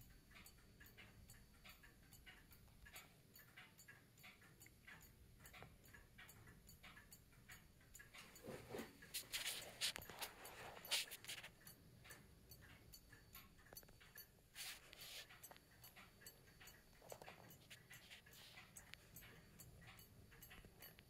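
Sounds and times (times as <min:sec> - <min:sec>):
clock ticking: 0:00.0 - 0:21.0.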